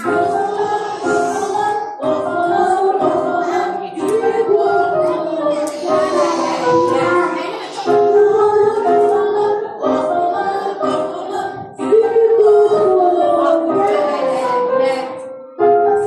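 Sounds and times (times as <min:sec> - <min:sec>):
children singing: 0:00.0 - 0:14.7
musical accompaniment: 0:00.0 - 0:16.0.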